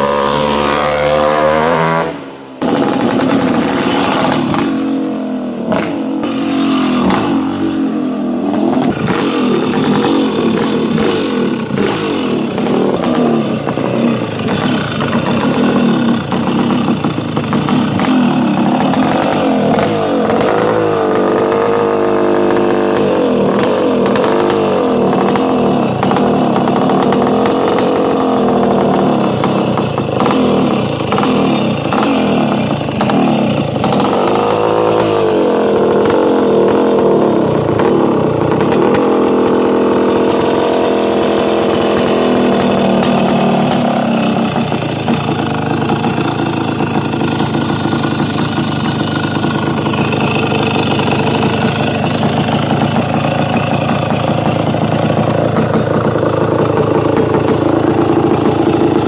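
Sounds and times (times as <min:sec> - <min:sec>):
motorcycle engine revving and idling: 0:00.0 - 0:59.0.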